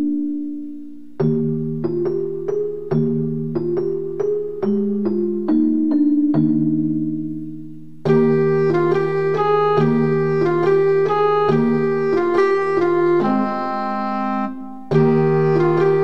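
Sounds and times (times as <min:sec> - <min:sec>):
keyboard tune with organ notes: 0:00.0 - 0:16.0.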